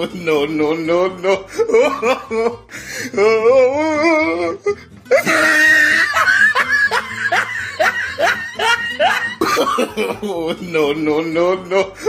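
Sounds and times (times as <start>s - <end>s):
person laughing: 0.0s - 12.0s.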